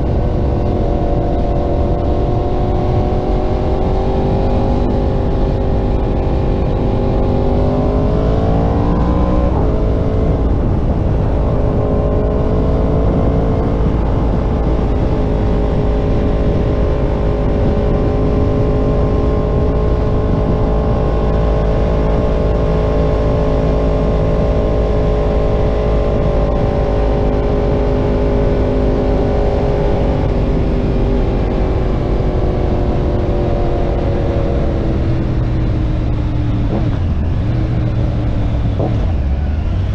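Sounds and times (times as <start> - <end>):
low wind rumble: 0.0 - 39.9
motorcycle engine revving: 0.0 - 39.9.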